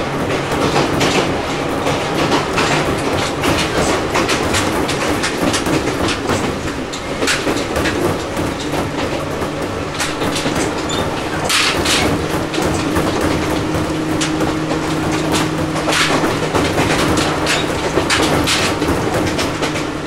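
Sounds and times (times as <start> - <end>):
train running hum: 0.0 - 20.0
wheels clicking over rail joints: 0.0 - 20.0.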